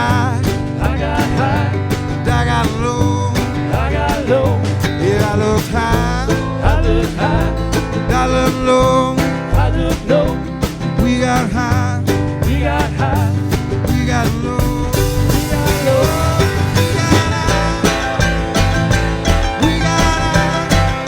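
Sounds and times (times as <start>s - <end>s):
acoustic guitar: 0.0s - 21.0s
drum kit beat: 0.0s - 21.0s
mandolin: 0.0s - 21.0s
upright bass: 0.0s - 21.0s.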